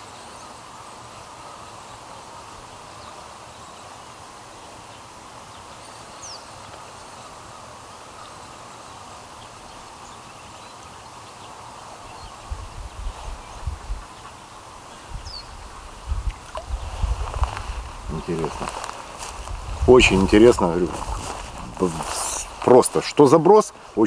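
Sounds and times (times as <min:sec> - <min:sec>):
riverside ambient hiss: 0:00.0 - 0:24.0.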